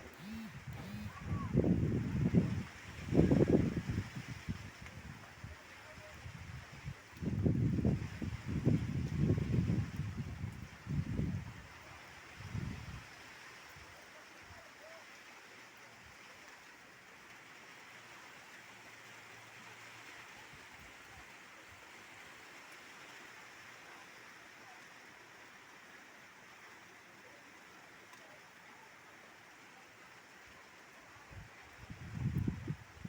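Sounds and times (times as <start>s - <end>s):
faint hiss of falling rain: 0.0s - 33.0s.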